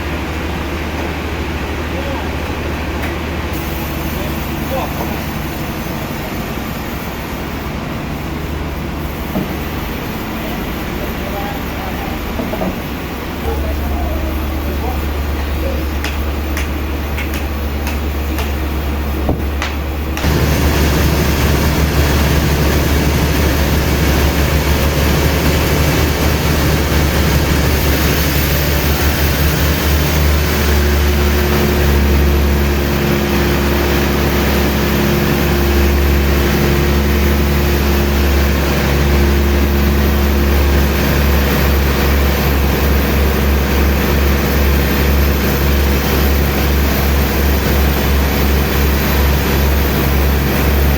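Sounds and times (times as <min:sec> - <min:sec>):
heavy machinery humming: 0:00.0 - 0:50.9.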